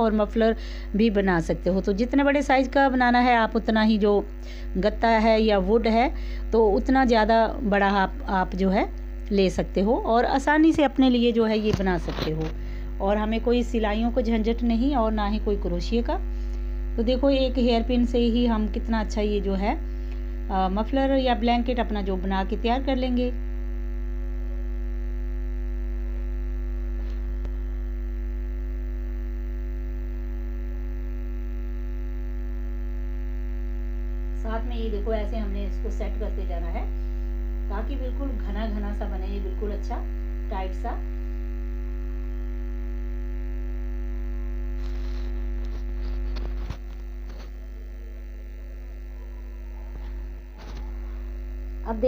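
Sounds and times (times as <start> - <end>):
electrical mains hum: 0.0 - 52.0.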